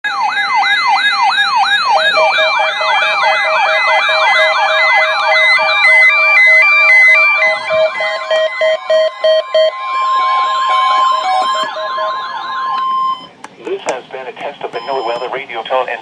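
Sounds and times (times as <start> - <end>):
electronic siren tones sweeping down: 0.1 - 13.4
two-pitch beeping alarm: 0.1 - 16.0.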